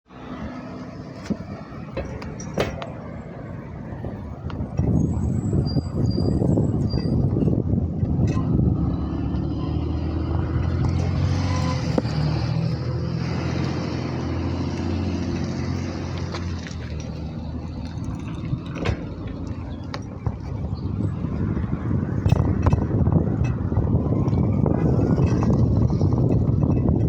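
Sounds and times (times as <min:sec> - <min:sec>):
road and wind noise: 0:00.1 - 0:27.0
vehicle engine humming: 0:00.1 - 0:27.0.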